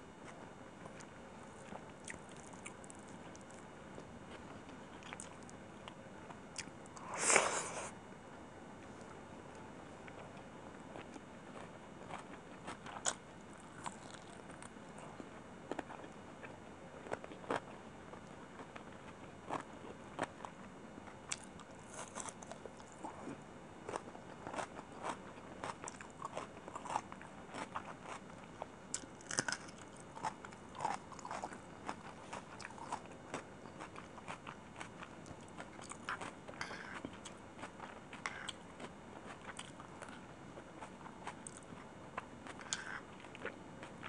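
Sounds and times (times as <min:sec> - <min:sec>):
person chewing food: 0:00.2 - 0:07.9, 0:09.0 - 0:44.0.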